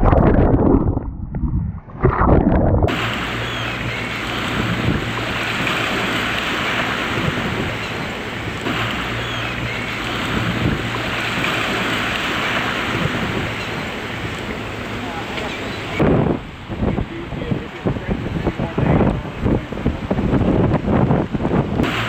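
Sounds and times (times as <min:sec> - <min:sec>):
wind buffeting microphone: 0:00.0 - 0:22.0
breaking waves: 0:01.9 - 0:22.0.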